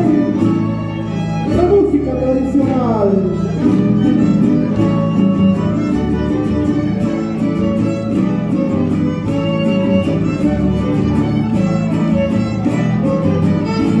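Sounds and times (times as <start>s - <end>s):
string band dance tune: 0.0s - 14.0s.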